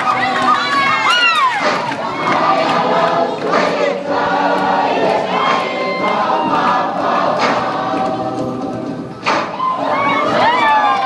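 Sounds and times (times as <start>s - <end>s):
crowd cheering and shouting: 0.0s - 8.4s, 9.0s - 11.0s
group singing: 0.0s - 11.0s.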